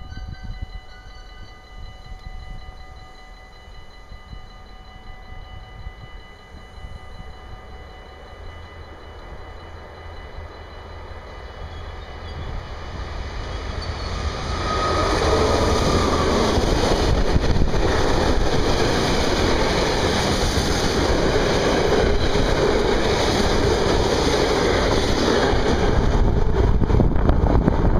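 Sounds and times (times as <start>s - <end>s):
diesel locomotive passing: 0.0s - 27.9s.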